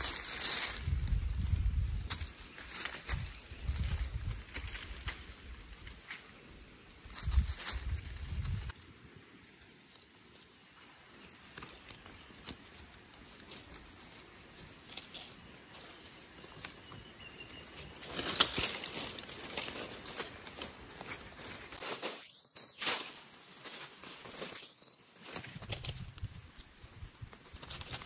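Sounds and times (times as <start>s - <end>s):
rustling: 0.0s - 8.8s, 9.6s - 28.0s.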